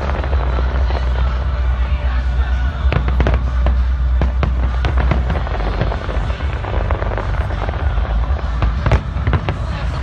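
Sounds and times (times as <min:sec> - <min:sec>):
fireworks cracks and pops: 0:00.0 - 0:10.0
low rumble: 0:00.0 - 0:10.0.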